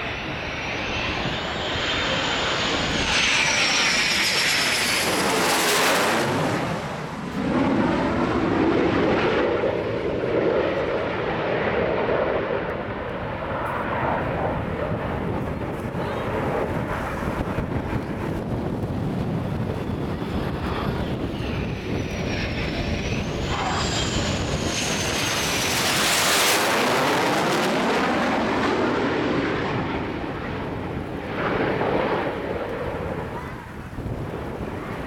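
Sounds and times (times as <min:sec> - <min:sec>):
jet engine roar with turbine whine: 0:00.0 - 0:35.0
jet passing overhead: 0:00.0 - 0:35.0.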